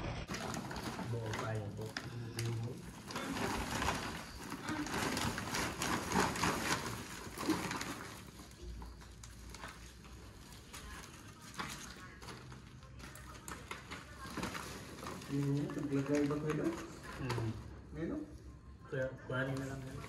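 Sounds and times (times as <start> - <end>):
plastic sack rustling: 0.0 - 17.6.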